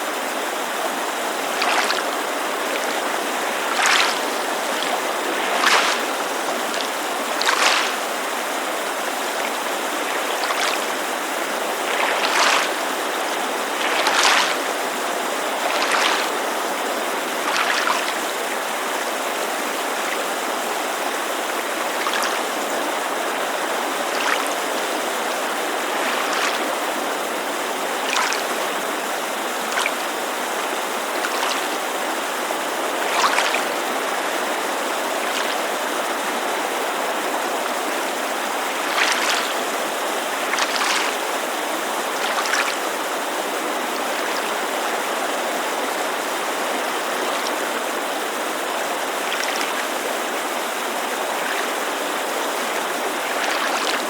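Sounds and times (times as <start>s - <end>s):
creek rushing: 0.0s - 54.0s
water lapping against shore: 0.0s - 54.0s.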